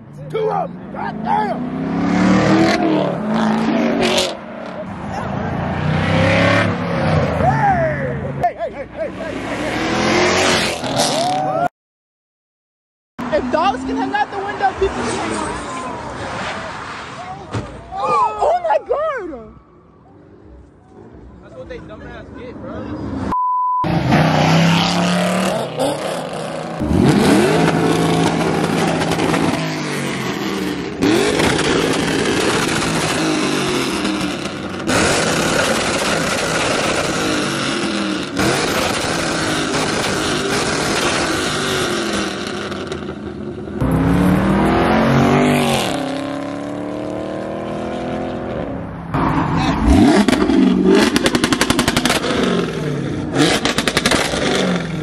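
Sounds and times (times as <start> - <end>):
car engines revving and accelerating: 0.0 - 11.7, 13.2 - 18.0, 20.1 - 55.0.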